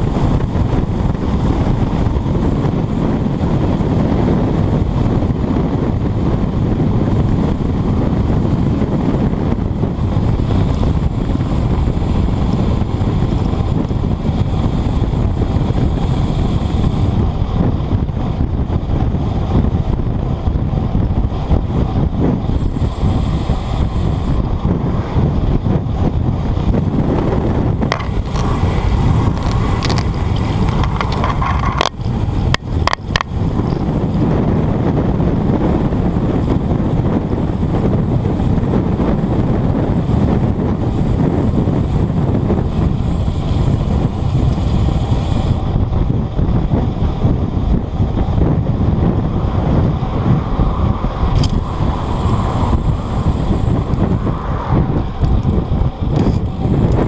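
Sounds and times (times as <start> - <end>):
bike tyres rumbling over bumpy road: 0.0 - 57.0
wind buffeting microphone: 0.0 - 57.0.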